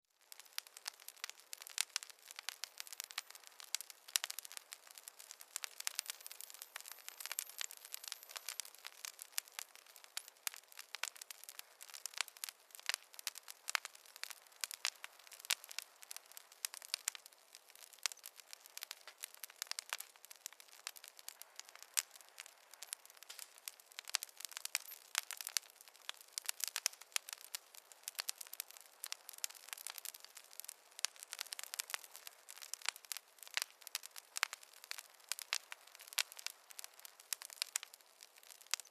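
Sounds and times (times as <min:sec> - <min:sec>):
wood fire crackling: 0:00.1 - 0:38.9.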